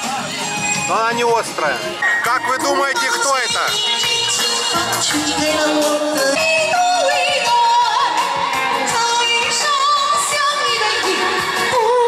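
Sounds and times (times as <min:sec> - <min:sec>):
backing music: 0:00.0 - 0:12.0.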